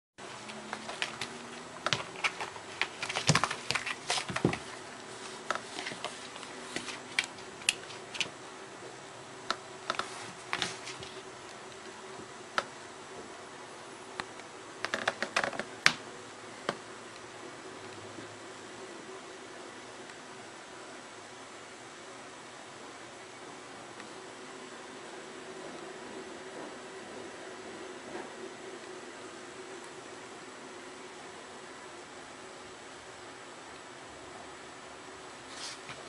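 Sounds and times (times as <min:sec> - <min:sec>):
faint steady hum: 0:00.2 - 0:36.0.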